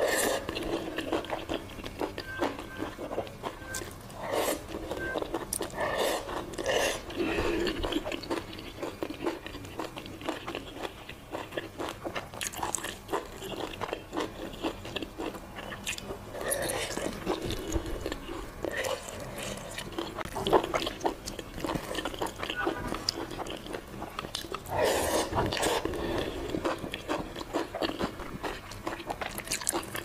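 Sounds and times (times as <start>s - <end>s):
chewing and biting food: 0.0s - 30.0s.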